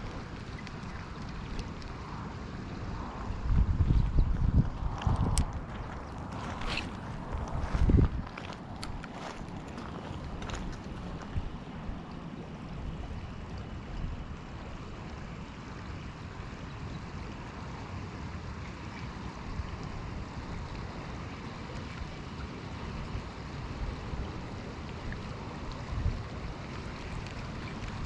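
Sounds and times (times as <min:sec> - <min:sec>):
river water flowing: 0:00.0 - 0:03.5, 0:04.8 - 0:28.0.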